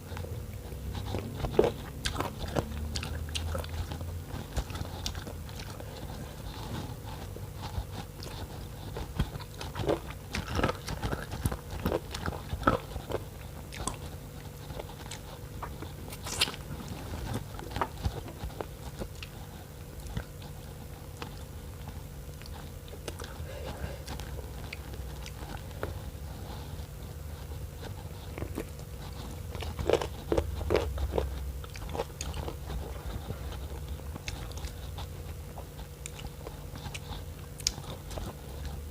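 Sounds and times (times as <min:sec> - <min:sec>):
low steady hum: 0:00.0 - 0:38.9
chewing and mouth smacks: 0:00.1 - 0:38.9.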